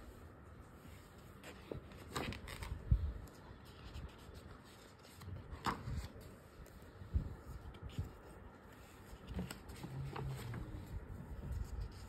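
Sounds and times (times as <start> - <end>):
paper rustling: 0.8 - 12.0.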